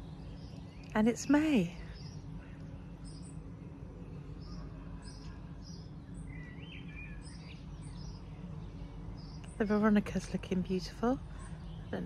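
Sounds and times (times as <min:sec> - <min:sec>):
low background rumble: 0:00.0 - 0:12.0
small songbirds chirping: 0:00.0 - 0:12.0.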